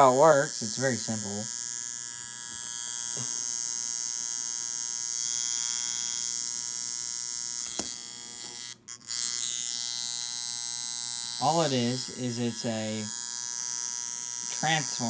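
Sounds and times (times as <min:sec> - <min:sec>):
electromechanical buzzer buzzing: 0:00.0 - 0:15.0.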